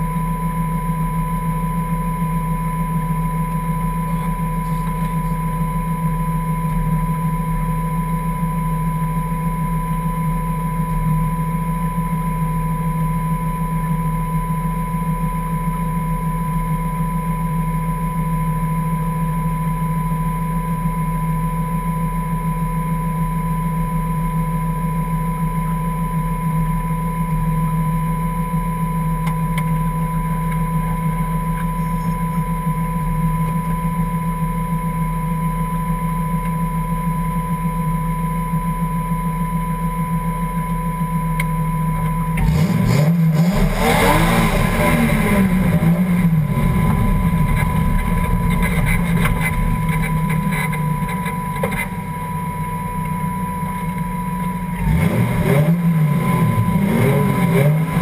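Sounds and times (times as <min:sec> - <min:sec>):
car engine idling and revving: 0:00.0 - 0:58.0
high whine: 0:00.0 - 0:58.0.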